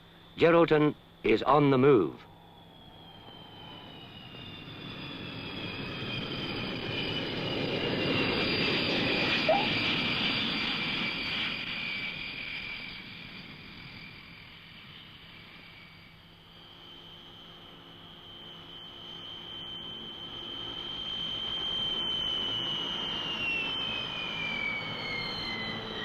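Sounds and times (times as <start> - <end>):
high jet whine: 0.0 - 26.0
airliner passing: 0.2 - 26.0.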